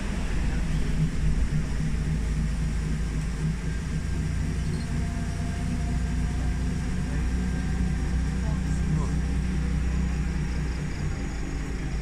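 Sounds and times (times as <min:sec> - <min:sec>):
tram rumbling: 0:00.0 - 0:12.0.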